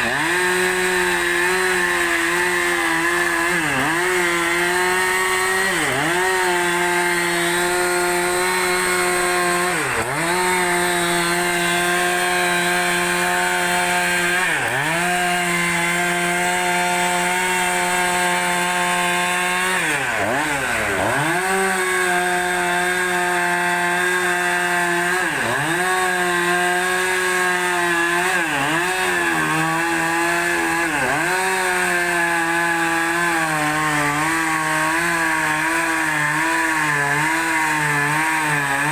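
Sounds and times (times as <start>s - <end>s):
chainsaw cutting a log: 0.0s - 38.9s.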